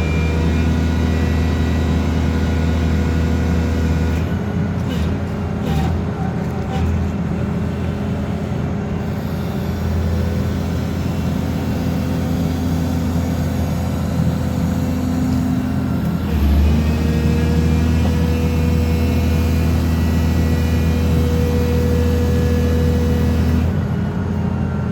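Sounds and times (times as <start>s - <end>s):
pile driver engine whining: 0.0s - 24.9s.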